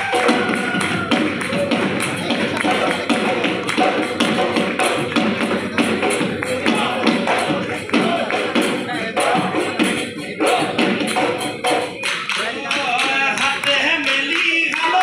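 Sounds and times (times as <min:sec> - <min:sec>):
dhol drumming: 0:00.0 - 0:15.0
person singing: 0:00.0 - 0:15.0.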